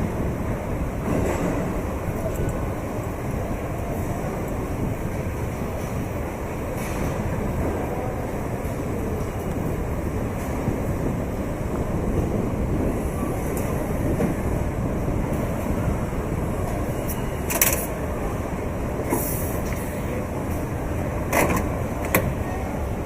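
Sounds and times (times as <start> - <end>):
low machinery rumble: 0.0 - 23.0.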